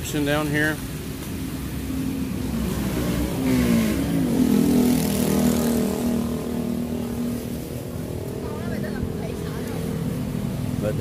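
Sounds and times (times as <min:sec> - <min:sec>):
motor engine speeding up: 0:01.4 - 0:11.0.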